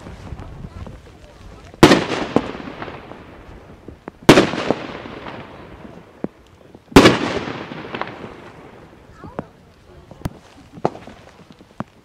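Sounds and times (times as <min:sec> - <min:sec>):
fireworks bangs echoing: 0:00.0 - 0:12.0
small firework pops: 0:00.0 - 0:12.0.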